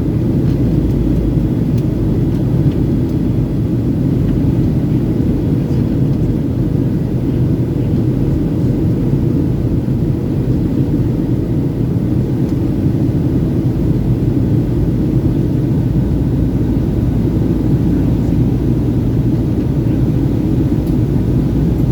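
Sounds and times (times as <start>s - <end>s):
airliner engines rumbling: 0.0s - 21.9s.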